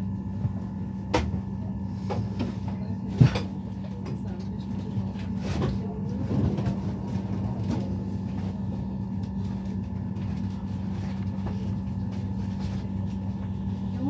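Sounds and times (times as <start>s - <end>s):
train electrical hum: 0.0s - 14.0s.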